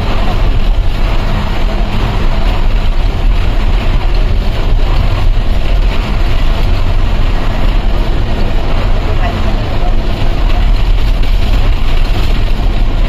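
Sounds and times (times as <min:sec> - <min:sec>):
coach engine and road rumble: 0:00.0 - 0:13.0.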